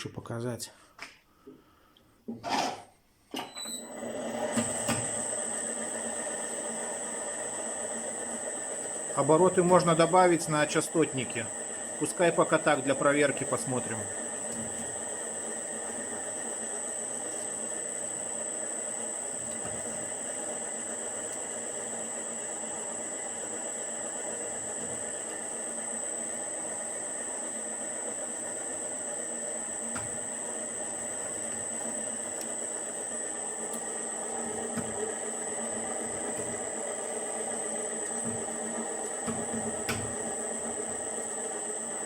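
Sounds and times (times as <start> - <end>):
electric motor drive running: 3.8 - 42.0.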